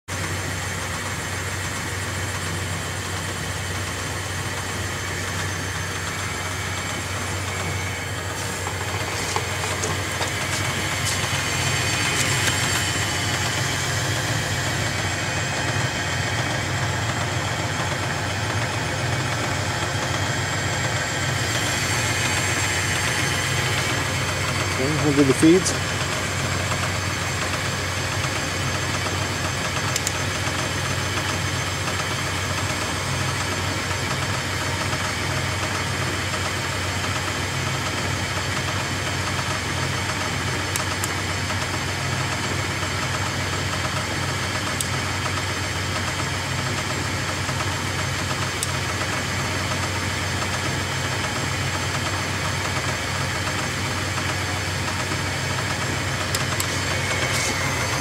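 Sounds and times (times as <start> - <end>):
lathe motor and gear hum: 0.1 - 58.0.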